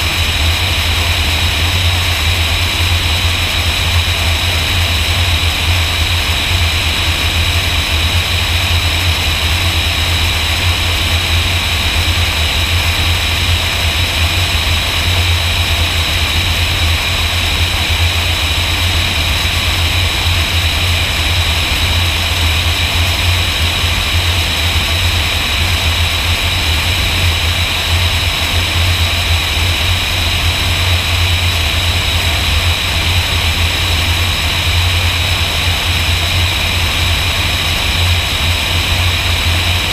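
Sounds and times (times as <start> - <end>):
light airplane engine drone: 0.0 - 39.9.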